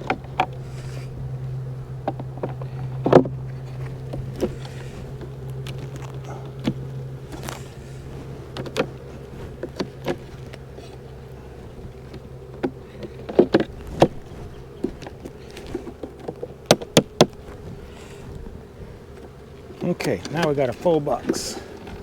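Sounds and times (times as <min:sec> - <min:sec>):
wooden frames clicking and knocking: 0:00.0 - 0:17.6
honeybees humming: 0:00.0 - 0:22.0.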